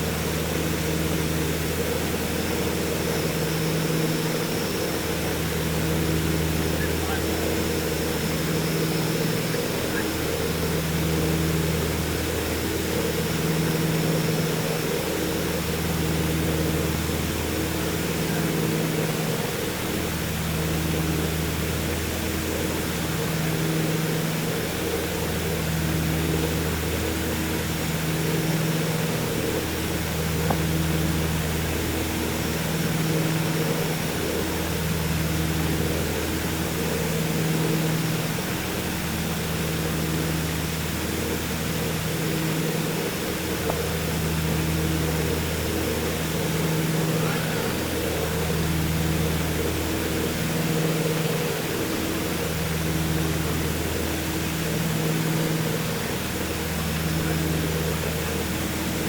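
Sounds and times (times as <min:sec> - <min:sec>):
aircraft engines droning: 0:00.0 - 0:59.0
airflow rushing around cabin: 0:00.0 - 0:59.0.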